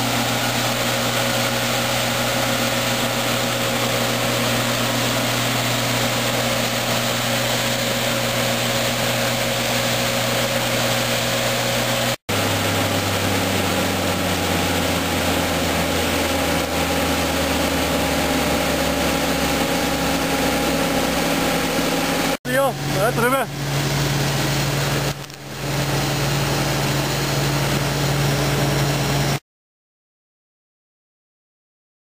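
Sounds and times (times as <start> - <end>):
combine harvester engine drone: 0.0 - 29.4.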